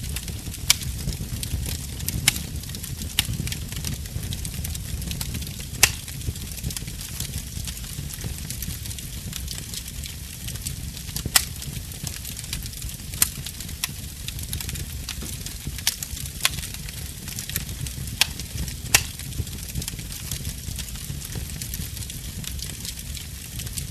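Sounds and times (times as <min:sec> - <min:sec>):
burning logs crackling and popping: 0:00.0 - 0:23.9
rumble and hiss of flames: 0:00.0 - 0:23.9.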